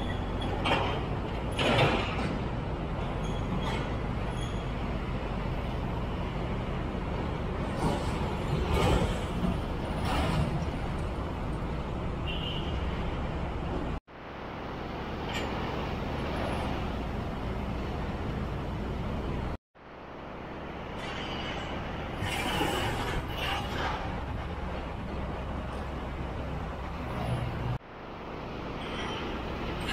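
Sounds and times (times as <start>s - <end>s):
road traffic passing: 0.0s - 29.9s.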